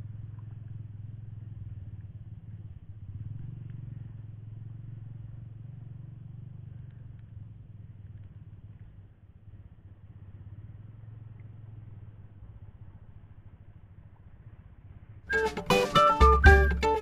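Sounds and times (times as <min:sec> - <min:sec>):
small engine running: 0:00.0 - 0:13.7.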